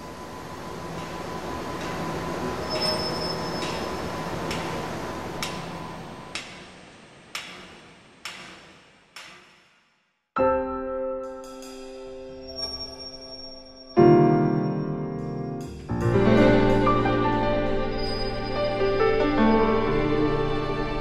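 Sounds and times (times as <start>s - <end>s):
piano: 0.0s - 6.5s, 10.4s - 21.0s.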